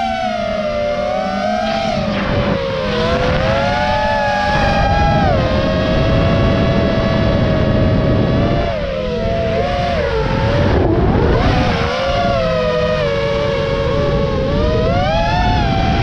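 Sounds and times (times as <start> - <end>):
drone motors whining: 0.0 - 16.0
rushing wind: 0.0 - 16.0.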